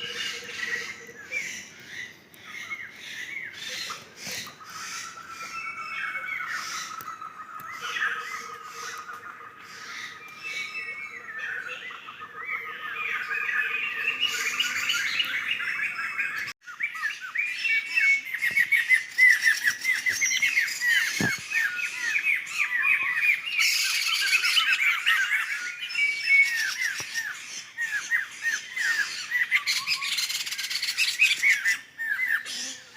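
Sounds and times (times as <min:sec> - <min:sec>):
birds chattering: 0:00.0 - 0:32.9.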